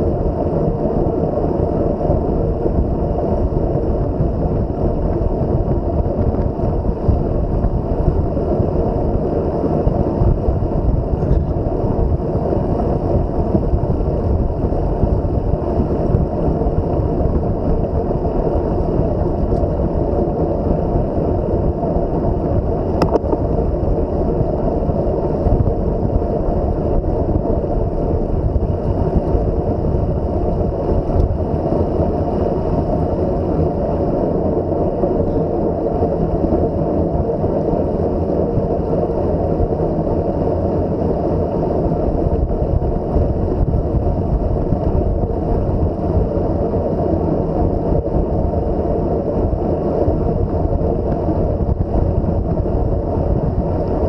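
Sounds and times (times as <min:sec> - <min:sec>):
bicycle tyre and road noise: 0:00.0 - 0:54.0
wind buffeting microphone: 0:00.0 - 0:54.0.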